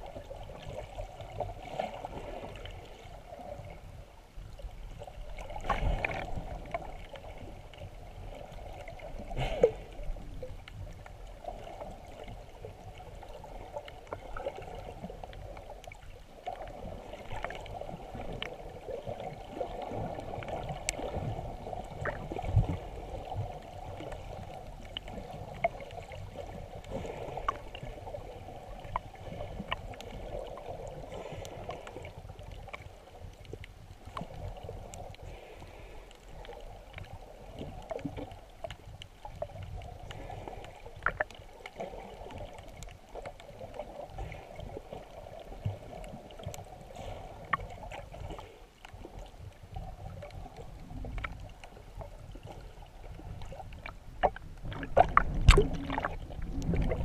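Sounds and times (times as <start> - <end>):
faint underwater clicks: 0.0 - 57.0
underwater gurgling wash: 0.0 - 57.0.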